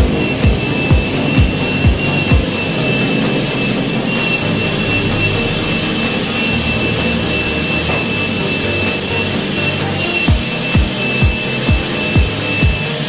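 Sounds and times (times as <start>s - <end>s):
high machine whine: 0.0s - 13.0s
machine rushing noise: 0.0s - 13.0s.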